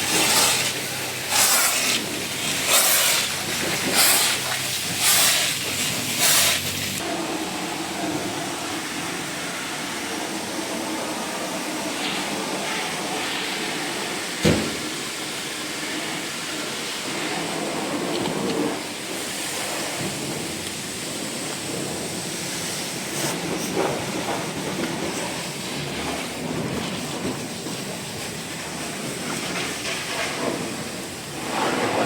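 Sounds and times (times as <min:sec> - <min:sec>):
pressurised water spray hissing: 0:00.0 - 0:32.0.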